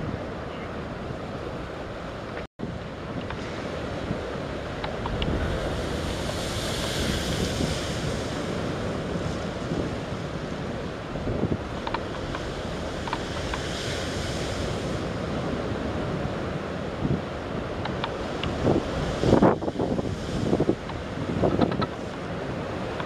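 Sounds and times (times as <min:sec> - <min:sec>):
wind buffeting microphone: 0:00.0 - 0:23.0
waves washing against rocks: 0:02.9 - 0:23.0
surf hissing: 0:03.0 - 0:23.0.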